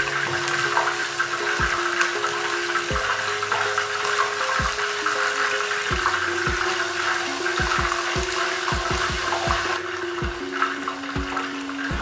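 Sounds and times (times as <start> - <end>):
hot oil sizzling in a pot: 0.0 - 11.9
background music: 0.0 - 12.0.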